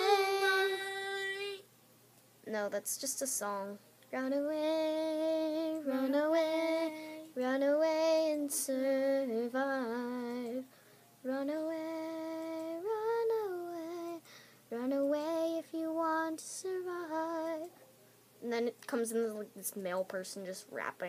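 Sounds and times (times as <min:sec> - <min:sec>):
girl singing unaccompanied: 0:00.0 - 0:01.7, 0:02.5 - 0:17.8, 0:18.4 - 0:21.0.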